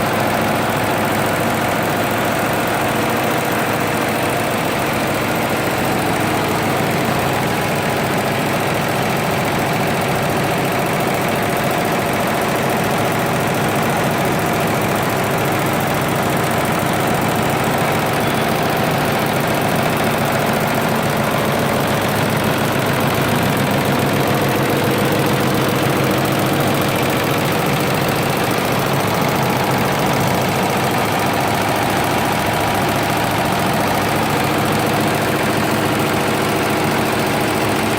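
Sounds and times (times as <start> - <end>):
embroidery machine stitching: 0.0 - 37.9.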